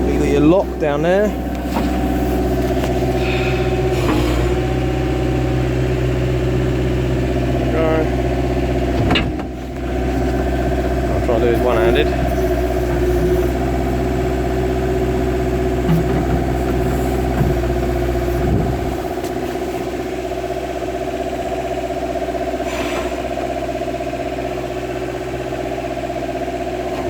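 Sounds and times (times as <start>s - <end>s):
engine knocks: 0.0s - 27.0s
excavator diesel engine running: 0.0s - 27.0s.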